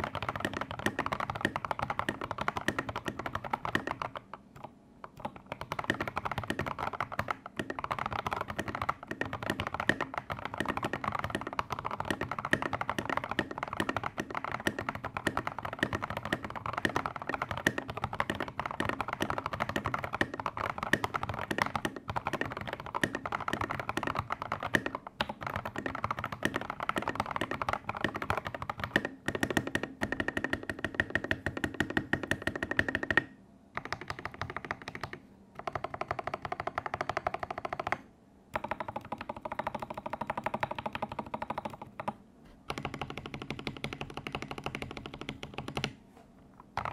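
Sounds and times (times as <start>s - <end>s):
fast mechanical keyboard typing: 0.0s - 38.0s, 38.6s - 46.0s, 46.7s - 46.9s.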